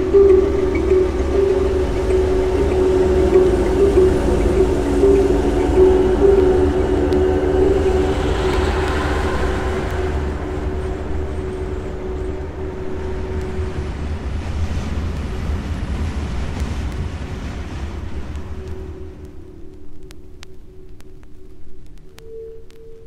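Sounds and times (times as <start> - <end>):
sustained held tones: 0.0 - 15.6, 18.4 - 23.0
low rumble: 0.0 - 23.0.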